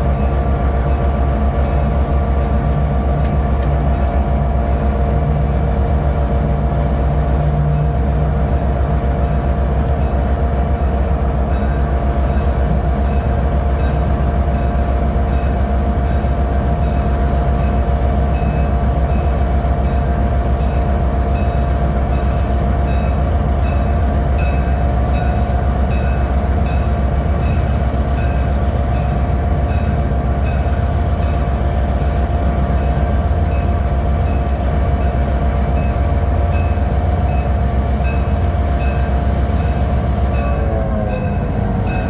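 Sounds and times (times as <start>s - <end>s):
locomotive engine rumbling: 0.0s - 42.0s.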